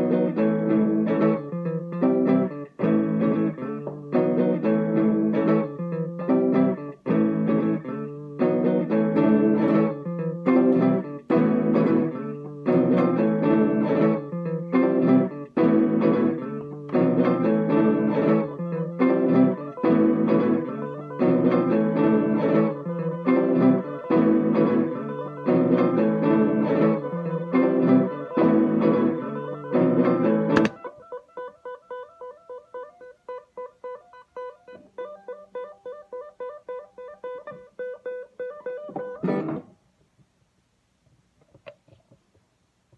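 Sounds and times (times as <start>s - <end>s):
plucked guitar music: 0.0s - 39.8s.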